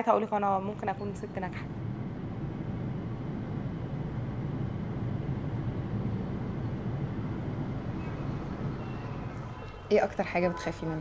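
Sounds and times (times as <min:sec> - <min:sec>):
car road and engine rumble: 0:00.6 - 0:09.9.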